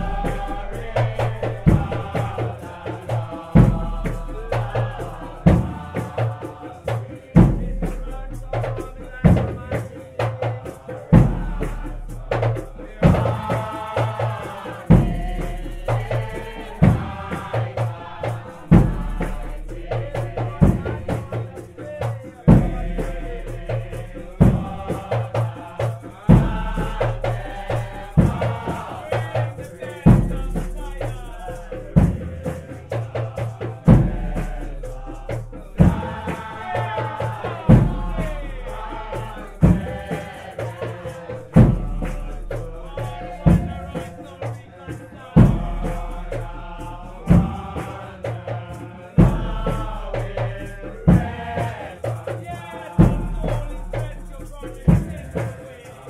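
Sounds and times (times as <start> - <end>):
deep bass drum: 0.0 - 6.2, 7.4 - 9.8, 11.1 - 13.7, 14.8 - 40.1, 41.2 - 44.2, 45.3 - 47.9, 49.2 - 51.8, 53.0 - 55.4
group singing a hymn: 0.0 - 56.0
hand drums: 0.0 - 56.0.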